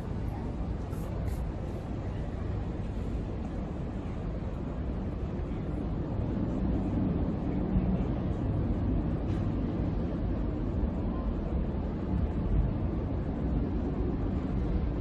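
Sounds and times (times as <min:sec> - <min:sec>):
ship engine low rumble: 0:00.0 - 0:15.0.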